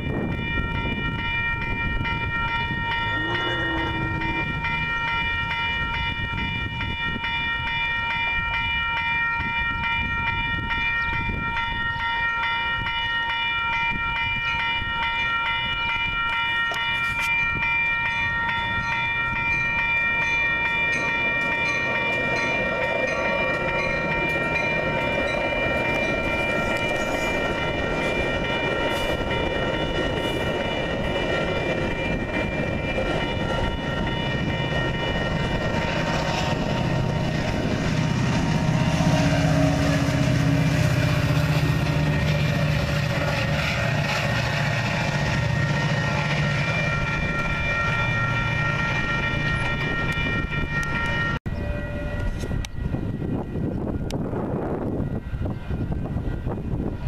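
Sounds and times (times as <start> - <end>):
crossing warning bells ringing: 0.0 - 57.0
train rumbling past: 0.0 - 57.0.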